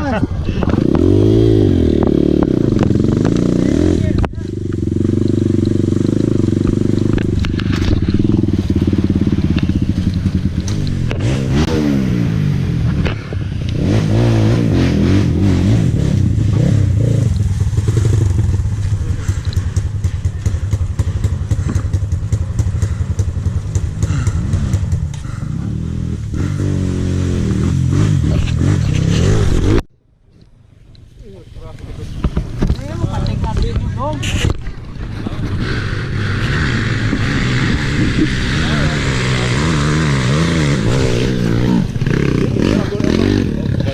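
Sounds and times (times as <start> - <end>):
dirt bike engine revving: 0.0 - 29.9, 32.4 - 43.9.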